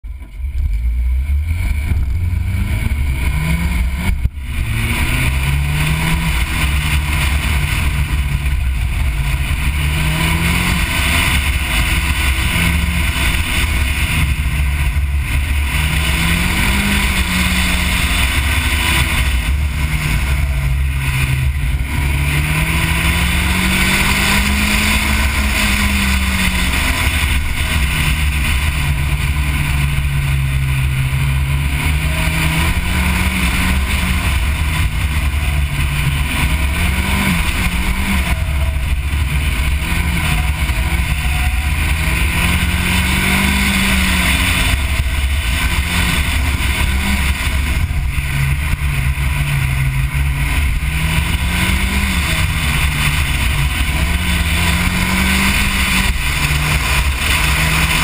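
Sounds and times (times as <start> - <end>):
car engine revving: 0.0 - 58.0
wind and road noise: 0.0 - 58.0.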